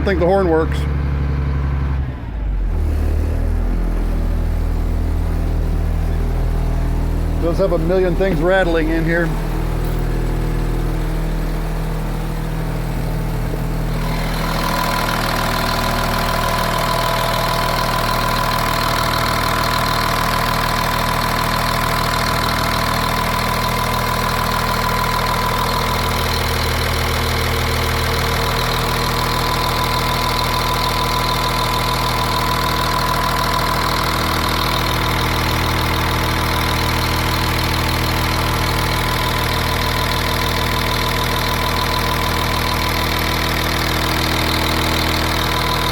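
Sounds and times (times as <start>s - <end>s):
diesel bus engine idling: 0.0s - 45.9s.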